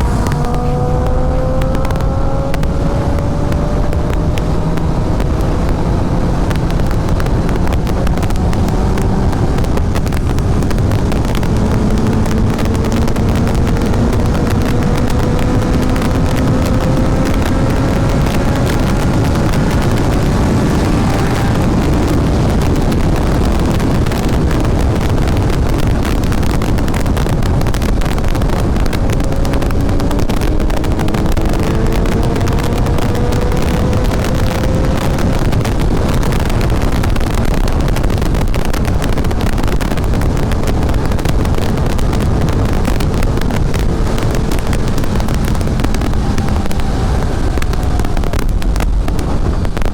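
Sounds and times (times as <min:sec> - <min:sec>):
motorcycle engine accelerating: 0:00.0 - 0:49.9
wind noise on microphone: 0:00.0 - 0:49.9.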